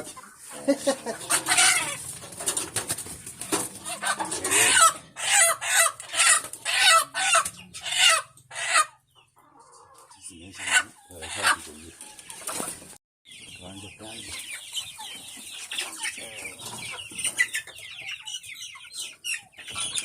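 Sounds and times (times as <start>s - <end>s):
chickens clucking and squawking: 0.0s - 20.0s.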